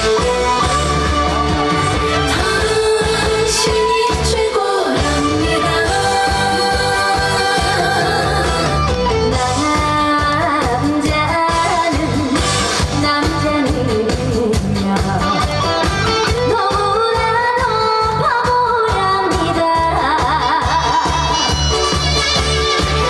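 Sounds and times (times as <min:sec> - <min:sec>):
band backing track with guitar: 0:00.0 - 0:23.0
woman singing: 0:01.7 - 0:21.7.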